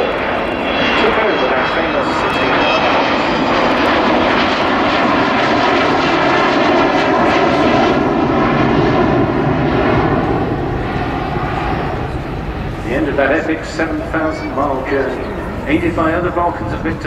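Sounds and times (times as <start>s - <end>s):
jet engines in flight: 0.0s - 17.0s.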